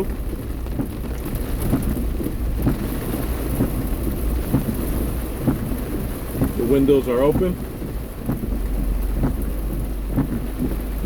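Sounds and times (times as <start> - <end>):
heavy rain: 0.0 - 11.0
low rumble of car: 0.0 - 11.0.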